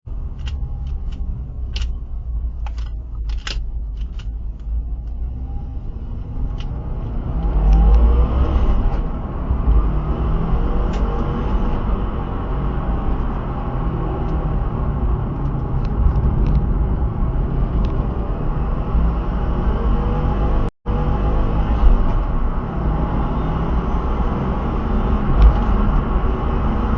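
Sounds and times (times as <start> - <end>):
car engine rumbling: 0.0 - 26.9.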